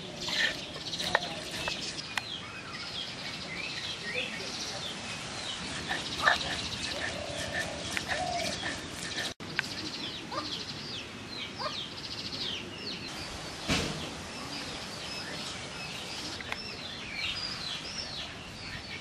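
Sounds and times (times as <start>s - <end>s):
outdoor background hiss: 0.0s - 19.0s
small birds chirping: 0.0s - 19.0s.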